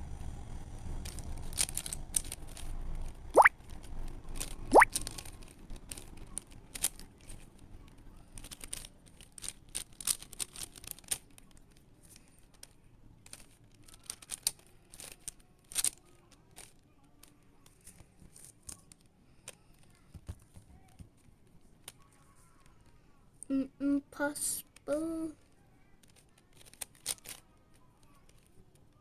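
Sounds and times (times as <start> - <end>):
puzzle cube plastic clicks: 1.0 - 22.9, 24.7 - 29.0.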